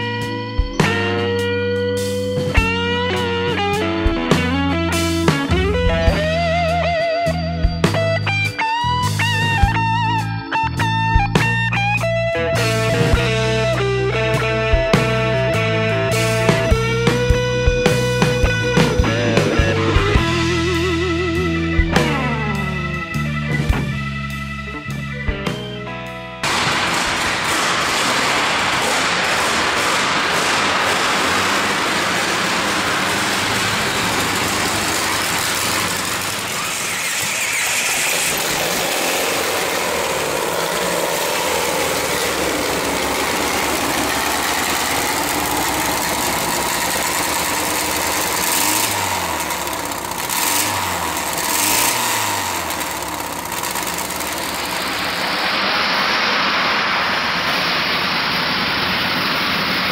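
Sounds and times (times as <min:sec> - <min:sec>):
car engine through open exhaust: 0:00.0 - 0:24.4, 0:26.4 - 0:59.9.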